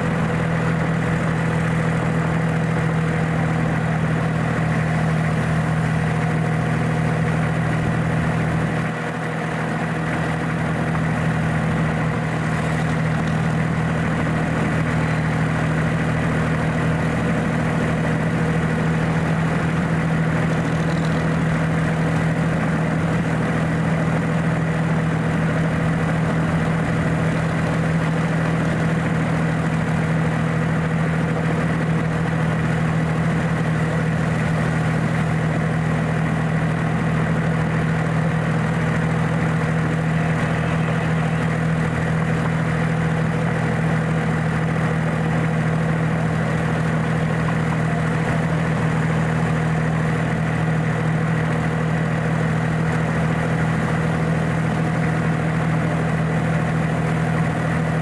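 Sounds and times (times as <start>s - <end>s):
miniature locomotive engine running: 0.0s - 58.0s.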